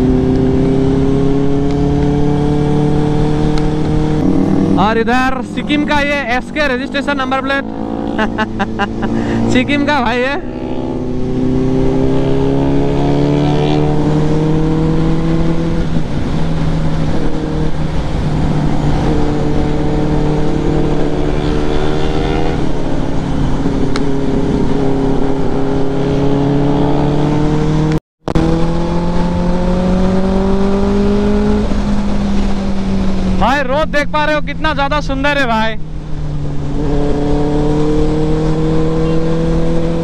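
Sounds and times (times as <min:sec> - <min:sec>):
motorcycle engine accelerating: 0:00.0 - 0:40.0
wind and road noise: 0:00.0 - 0:40.0.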